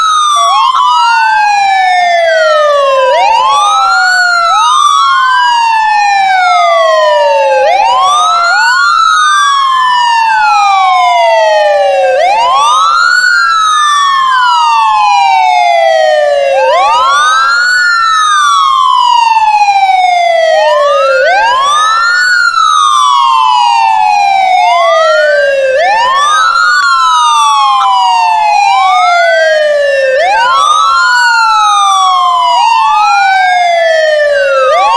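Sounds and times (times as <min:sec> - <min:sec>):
ambulance siren wailing: 0:00.0 - 0:34.9.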